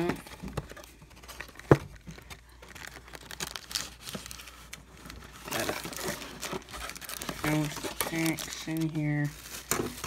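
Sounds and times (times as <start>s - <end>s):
foil packs crinkling: 0.0s - 10.0s.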